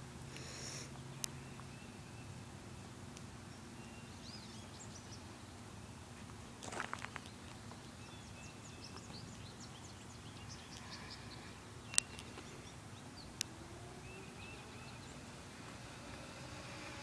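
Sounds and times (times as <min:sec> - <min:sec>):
faint outdoor rumble: 0:00.0 - 0:17.0
small birds chirping: 0:00.4 - 0:17.0.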